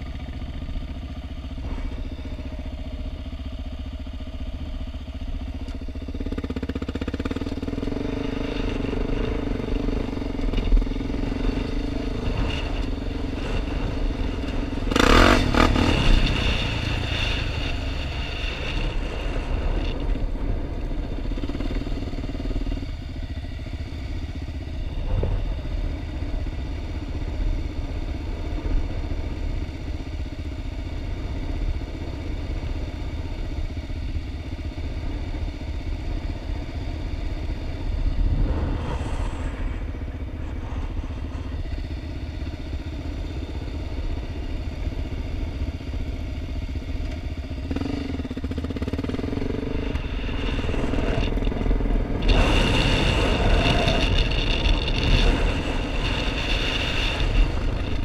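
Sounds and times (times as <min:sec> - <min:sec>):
motorcycle and quad engines idling: 0:00.0 - 0:58.0.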